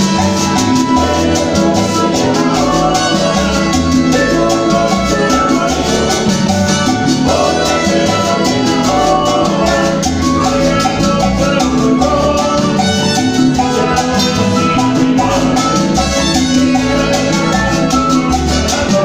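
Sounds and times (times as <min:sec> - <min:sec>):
latin dance band through pa: 0:00.0 - 0:19.0
metal guiro scraping: 0:00.0 - 0:19.0.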